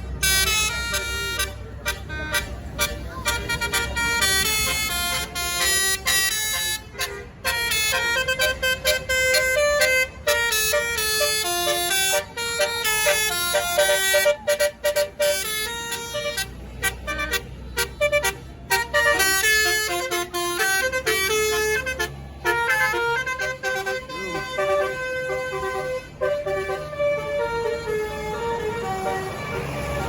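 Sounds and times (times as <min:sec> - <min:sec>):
diesel engine running low: 0:00.0 - 0:30.0
musical bus horn melody: 0:00.0 - 0:30.0.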